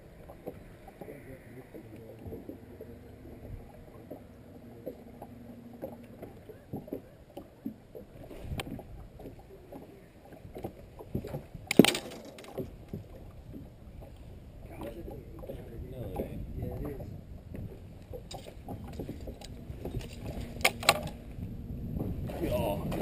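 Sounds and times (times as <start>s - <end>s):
water slapping boat hull: 0.0s - 23.0s.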